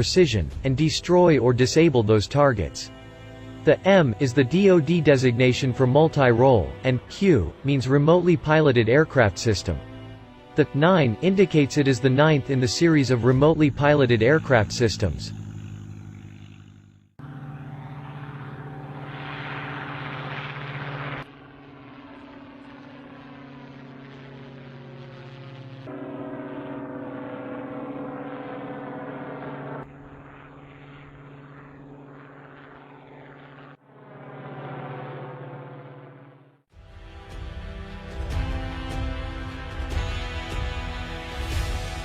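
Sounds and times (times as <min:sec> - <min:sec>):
propeller aircraft droning past: 0:00.0 - 0:42.0.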